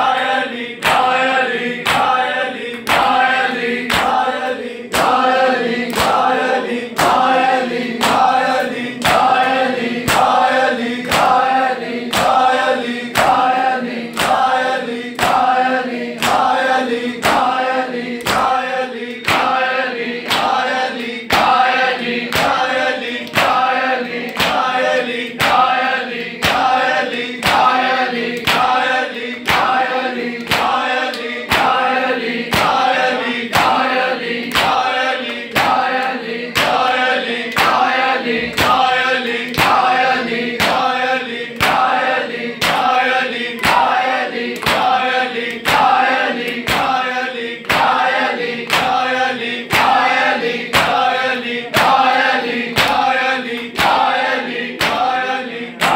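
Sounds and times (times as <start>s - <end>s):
men chanting in unison: 0.0s - 55.9s.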